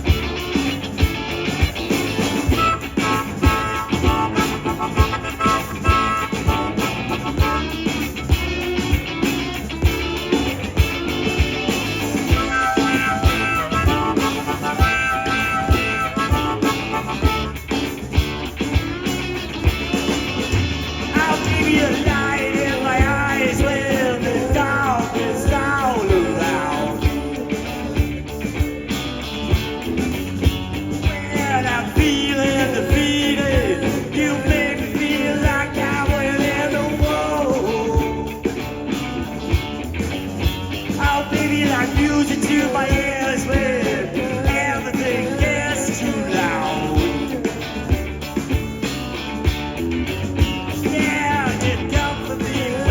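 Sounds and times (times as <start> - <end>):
blues-rock band playing: 0.0 - 52.9.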